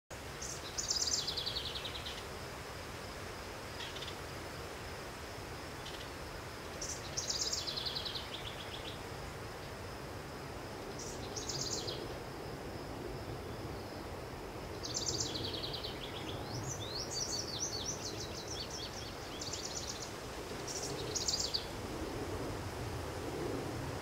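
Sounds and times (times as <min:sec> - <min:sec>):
outdoor background noise: 0:00.1 - 0:24.0.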